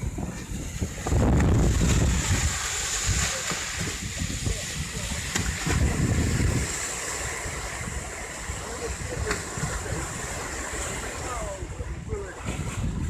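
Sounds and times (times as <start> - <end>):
water washing: 0.0 - 13.0
wind buffeting microphone: 0.0 - 13.0.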